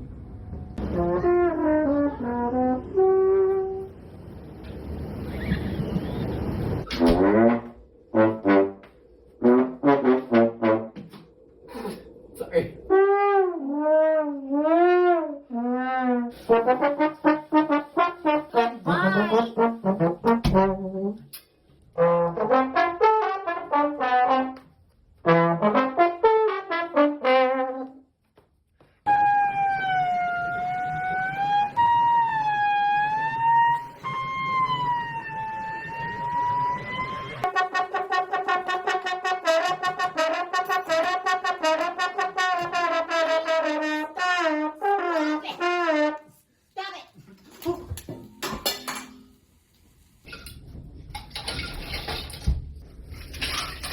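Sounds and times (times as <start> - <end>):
brass horn tones: 0.8 - 4.2, 5.4 - 28.0, 29.1 - 46.5.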